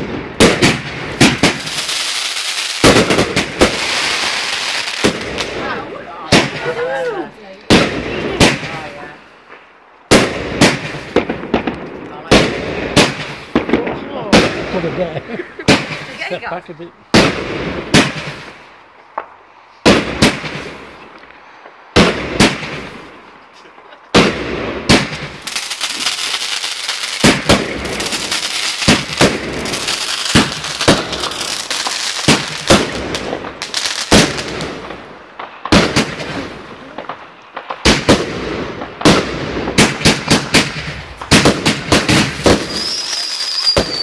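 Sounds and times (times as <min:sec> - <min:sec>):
fireworks rapid pops and hiss: 0:00.0 - 0:05.7, 0:06.3 - 0:06.7, 0:07.5 - 0:15.0, 0:15.6 - 0:16.4, 0:17.1 - 0:44.0
fireworks bangs: 0:00.0 - 0:44.0.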